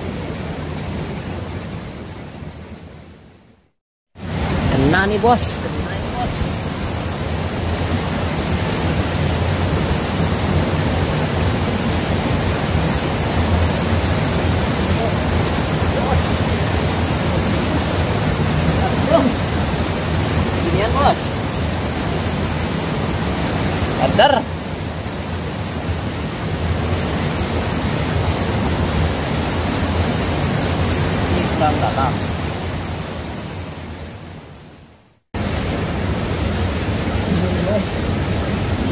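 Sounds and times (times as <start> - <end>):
river rushing over rocks: 4.2 - 34.8, 35.4 - 38.9.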